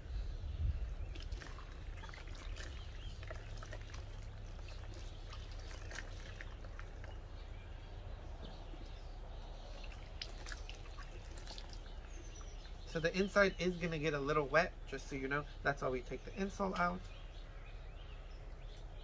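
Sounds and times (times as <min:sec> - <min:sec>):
water splashing and trickling: 0:00.6 - 0:19.0.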